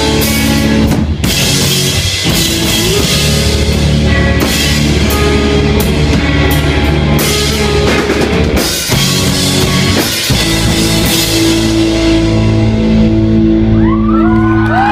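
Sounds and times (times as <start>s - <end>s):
rock band playing loud: 0.0s - 14.9s.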